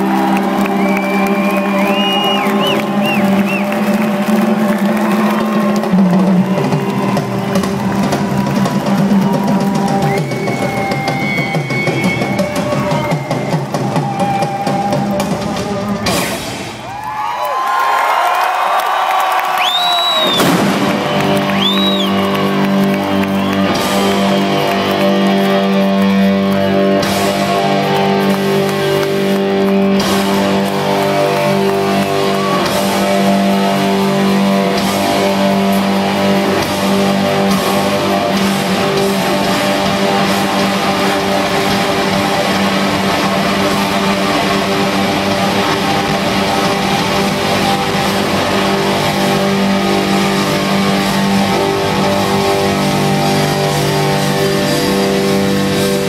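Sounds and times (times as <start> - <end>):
distorted electric guitars: 0.0 - 16.8, 19.7 - 56.0
live rock band playing: 0.0 - 16.9, 20.2 - 56.0.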